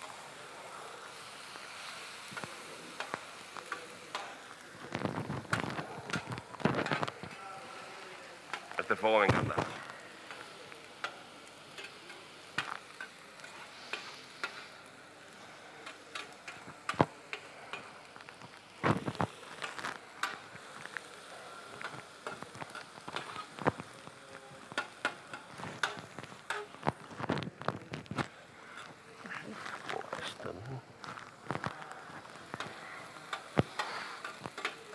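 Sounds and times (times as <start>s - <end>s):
onions sizzling in oil: 0.0s - 34.9s.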